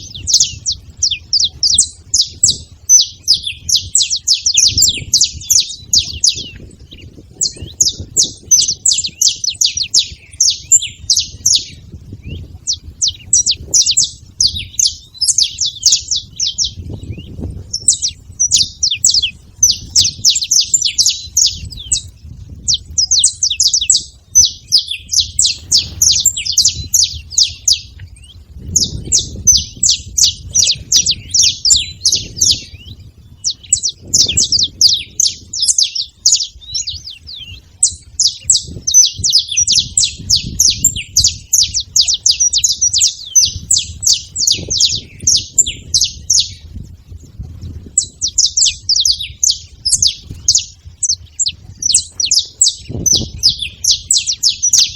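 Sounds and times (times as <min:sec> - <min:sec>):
finch singing: 0:00.0 - 0:54.9.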